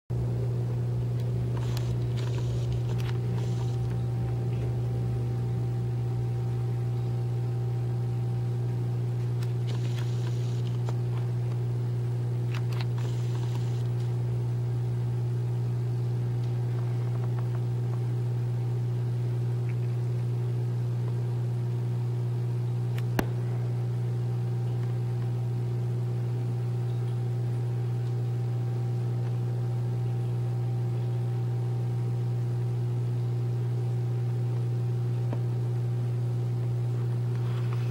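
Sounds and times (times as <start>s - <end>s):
aquarium equipment humming: 0.1s - 37.9s.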